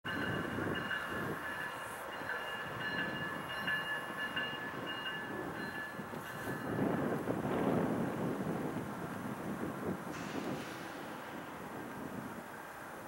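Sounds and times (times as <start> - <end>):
train low rumble: 0.1 - 13.0.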